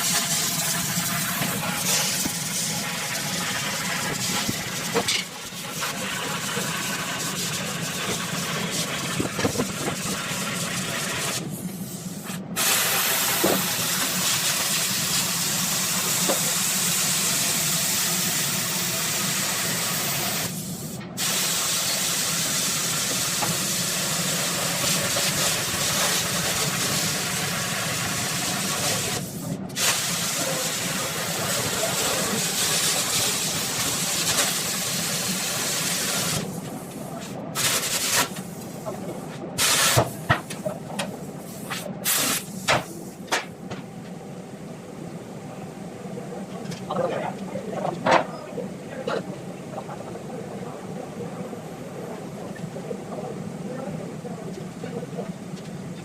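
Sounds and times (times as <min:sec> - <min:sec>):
steady hissing noise: 0:00.0 - 0:56.0.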